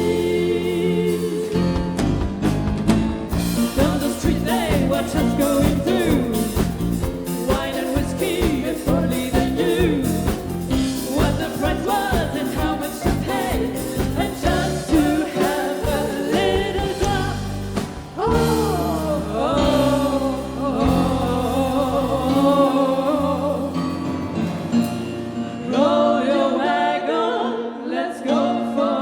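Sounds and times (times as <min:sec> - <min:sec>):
live rock band playing: 0:00.0 - 0:25.6
person singing: 0:03.6 - 0:29.0.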